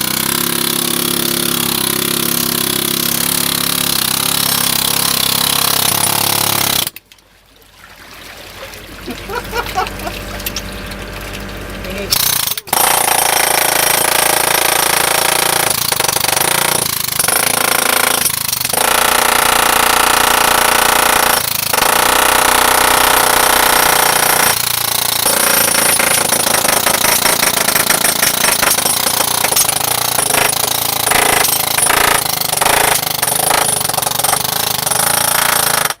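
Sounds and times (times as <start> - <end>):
pneumatic jackhammer hammering: 0.0 - 7.0, 11.8 - 36.0.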